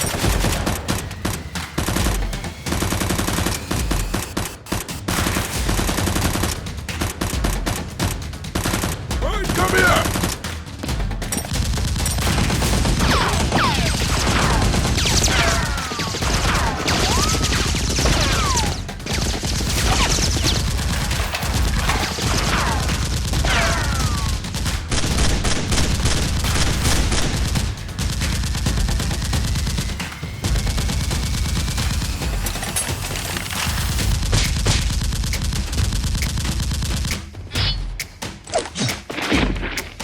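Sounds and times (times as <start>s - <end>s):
rapid gunfire: 0.0s - 40.0s.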